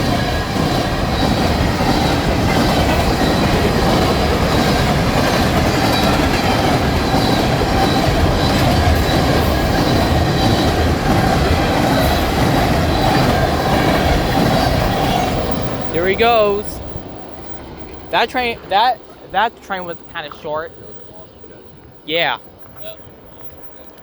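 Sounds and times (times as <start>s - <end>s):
train wheels rumbling on rail: 0.0s - 21.7s.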